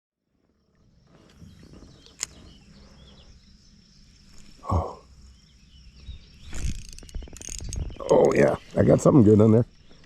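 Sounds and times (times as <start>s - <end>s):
high insect drone: 0.4s - 10.0s.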